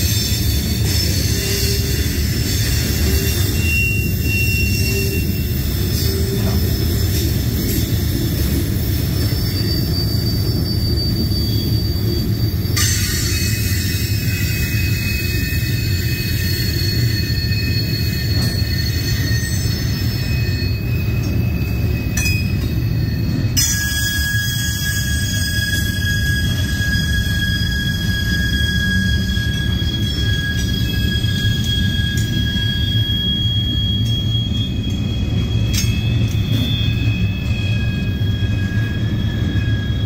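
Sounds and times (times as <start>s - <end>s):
high-pitched wheel squeal: 0.0s - 40.0s
rumble of steel wheels on rail: 0.0s - 40.0s.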